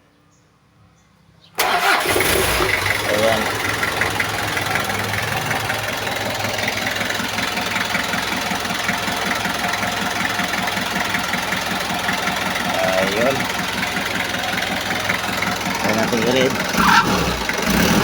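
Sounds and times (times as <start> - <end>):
diesel engine idling: 1.6 - 18.0.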